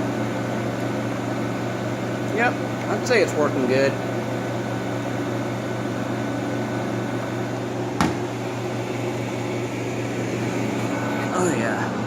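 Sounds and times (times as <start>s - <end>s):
air conditioner compressor hum: 0.0s - 12.0s
fan and air rushing: 0.0s - 12.0s.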